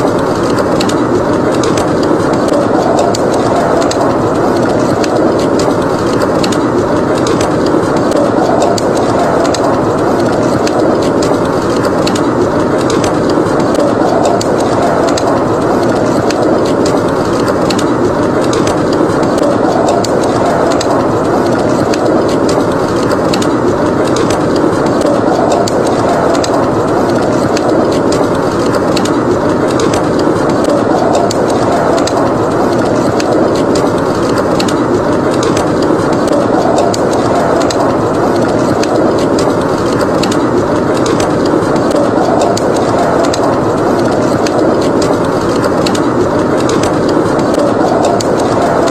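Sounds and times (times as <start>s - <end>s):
blizzard wind blowing: 0.0s - 48.9s
wood fire crackling: 0.0s - 48.9s.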